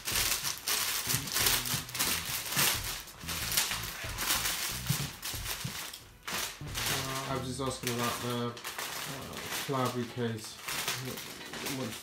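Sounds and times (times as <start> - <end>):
cellophane wrap crinkling: 0.0 - 12.0.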